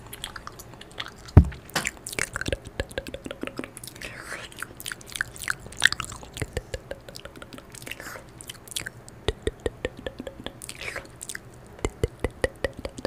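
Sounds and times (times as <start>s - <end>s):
lips and tongue clicking and smacking: 0.0s - 13.0s.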